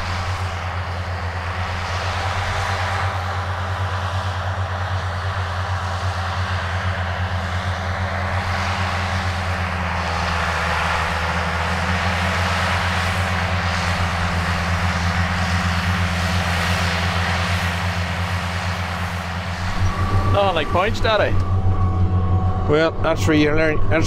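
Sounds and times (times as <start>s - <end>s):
diesel tractor engine droning: 0.0s - 24.0s.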